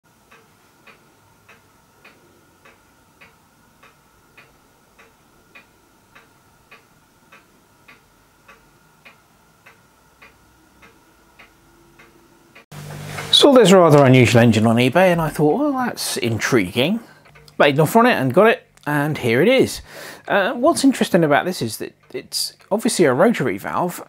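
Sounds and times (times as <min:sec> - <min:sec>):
faint ticking: 0:00.1 - 0:23.8
faint steady hum: 0:00.1 - 0:24.0.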